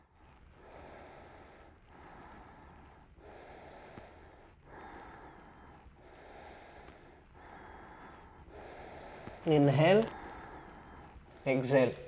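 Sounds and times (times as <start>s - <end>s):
man breathing slowly: 0.0s - 12.0s.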